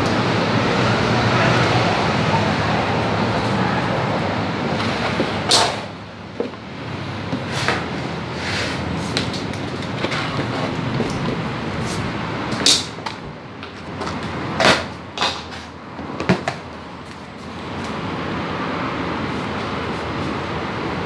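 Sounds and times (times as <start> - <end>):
electric fan whooshing: 0.0 - 16.0, 16.7 - 21.0.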